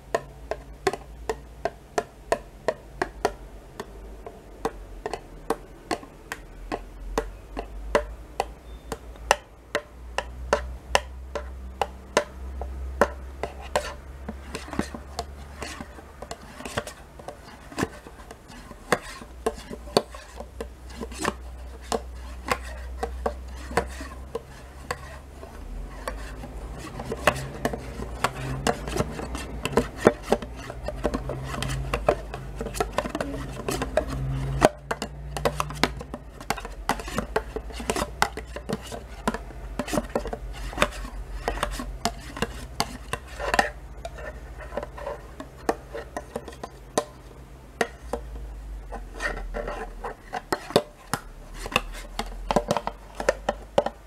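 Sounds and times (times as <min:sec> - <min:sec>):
spoon scraping plastic pot: 0:02.3 - 0:54.0.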